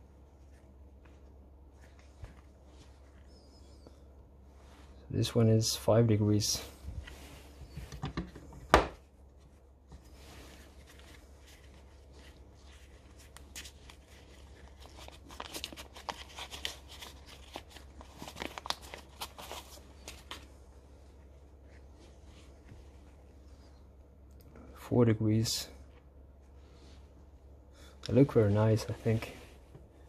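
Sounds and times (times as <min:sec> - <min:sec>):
gloves rustling: 0:00.0 - 0:24.3, 0:25.7 - 0:30.0.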